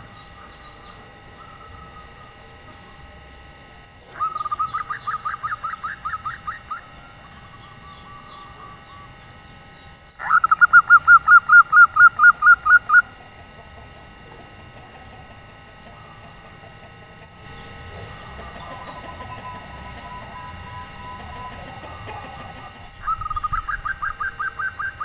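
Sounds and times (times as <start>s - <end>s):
dove cooing rapidly: 0.0s - 3.0s, 4.0s - 9.2s, 10.2s - 25.0s.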